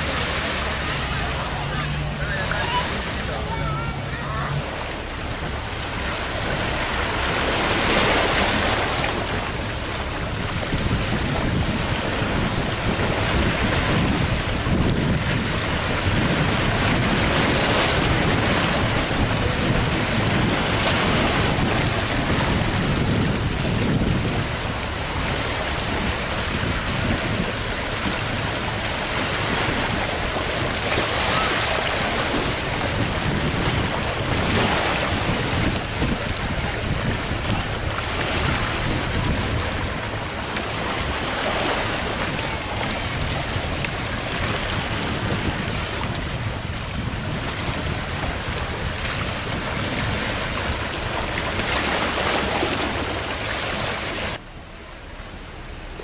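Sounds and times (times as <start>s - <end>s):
wind on microphone: 0.0s - 54.4s
waves washing: 0.0s - 56.0s.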